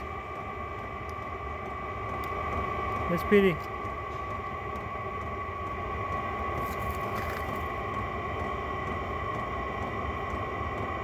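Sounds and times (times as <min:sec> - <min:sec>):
air heater fan whine: 0:00.0 - 0:11.0
fuel pump ticking: 0:00.0 - 0:11.0.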